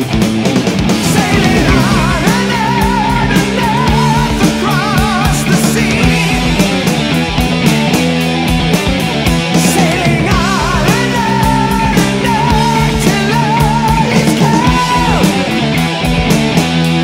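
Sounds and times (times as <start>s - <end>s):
heavy metal music: 0.0s - 17.0s.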